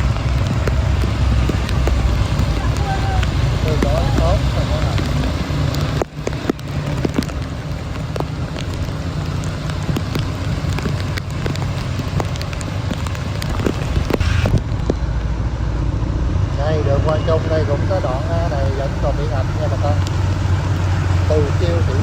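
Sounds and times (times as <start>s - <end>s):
low rumble: 0.0s - 22.0s
rain drops hitting: 0.0s - 22.0s.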